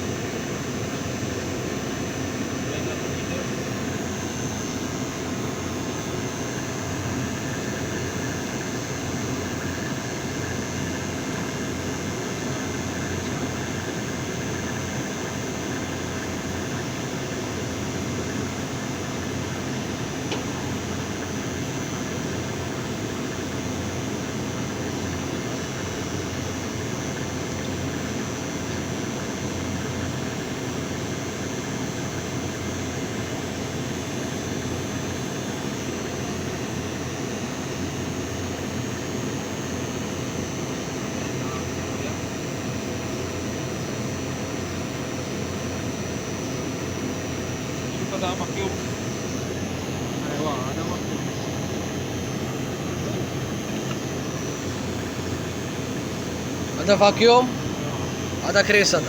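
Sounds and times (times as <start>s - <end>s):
faint constant whine: 0.0s - 59.0s.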